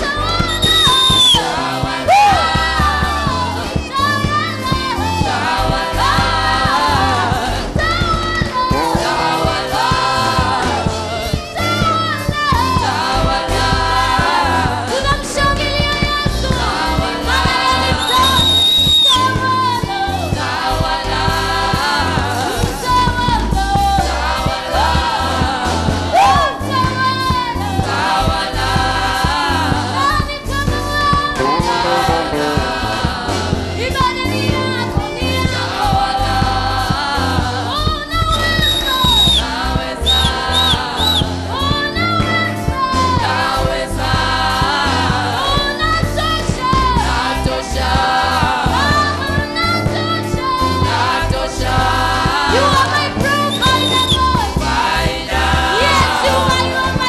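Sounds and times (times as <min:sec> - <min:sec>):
band with steady bass beat: 0:00.0 - 0:57.0
woman singing into microphone: 0:00.0 - 0:57.0.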